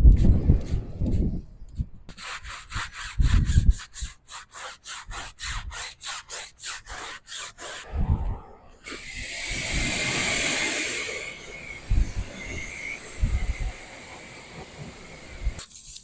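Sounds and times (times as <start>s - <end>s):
stiff brush scrubbing: 2.1s - 8.0s, 8.8s - 16.0s.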